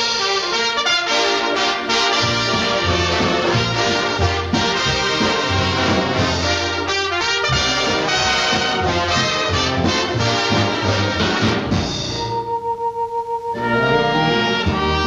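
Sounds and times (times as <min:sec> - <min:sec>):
orchestral music led by brass: 0:00.0 - 0:12.6, 0:13.5 - 0:15.0.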